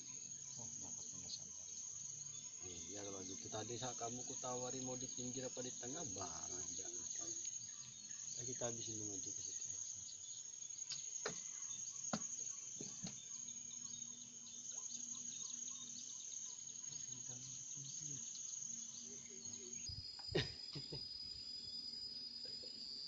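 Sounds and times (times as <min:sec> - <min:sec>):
bird chirps: 0:00.0 - 0:23.0
insects droning: 0:00.0 - 0:23.0.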